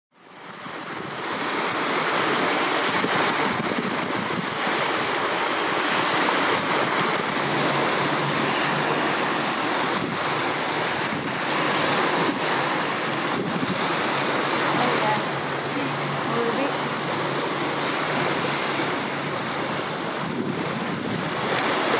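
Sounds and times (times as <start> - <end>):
sea waves washing: 0.2 - 21.9
wind buffeting microphone: 0.5 - 21.9.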